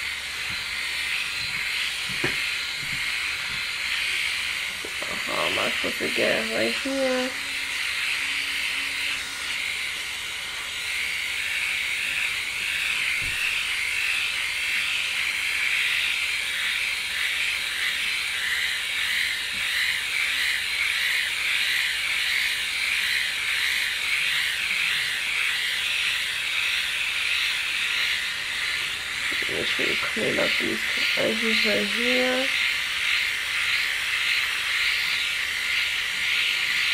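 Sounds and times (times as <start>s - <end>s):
electric shaver whirring: 0.0s - 36.9s.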